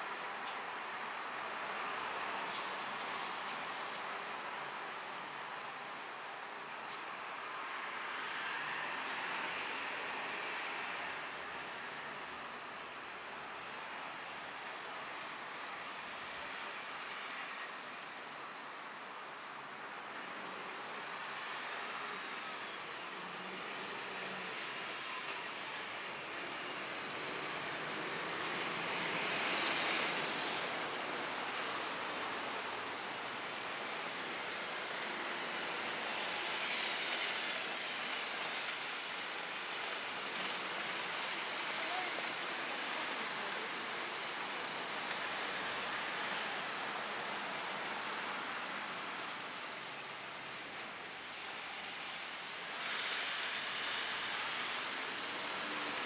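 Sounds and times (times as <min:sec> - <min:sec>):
street traffic rushing: 0:00.0 - 0:56.0.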